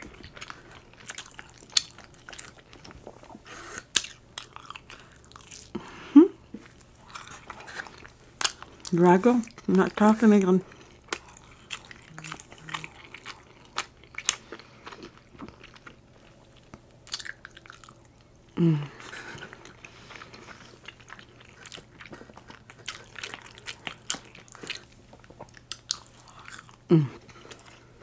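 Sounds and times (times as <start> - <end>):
person chewing with mouth smacks: 0.0 - 9.8, 10.6 - 28.0.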